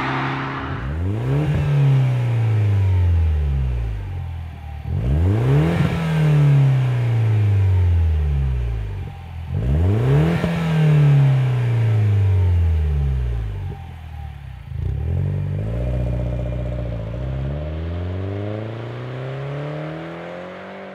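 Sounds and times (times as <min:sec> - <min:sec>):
car engine revving: 0:00.0 - 0:13.8, 0:14.7 - 0:20.9.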